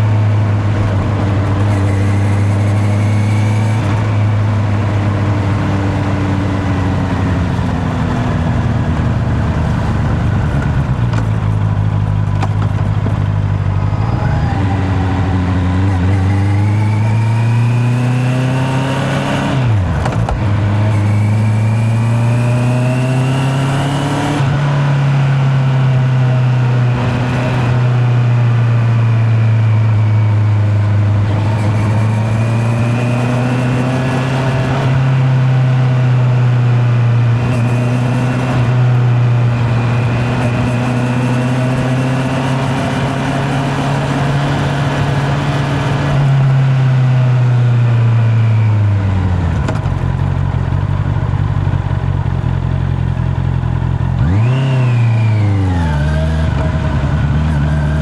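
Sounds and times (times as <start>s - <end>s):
motorcycle engine under way: 0.0s - 58.0s.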